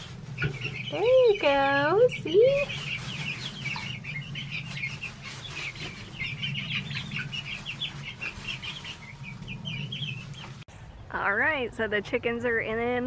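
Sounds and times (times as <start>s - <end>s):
chicks peeping and clucking: 0.0s - 11.4s
steady low hum: 0.0s - 12.4s.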